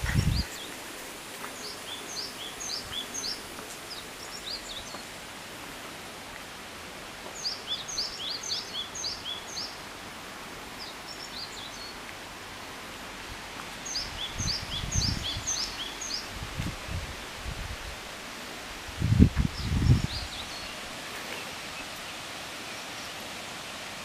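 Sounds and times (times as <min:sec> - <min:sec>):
songbird singing: 0:00.0 - 0:06.4, 0:07.0 - 0:17.0, 0:18.0 - 0:24.0
outdoor hiss: 0:00.0 - 0:24.0.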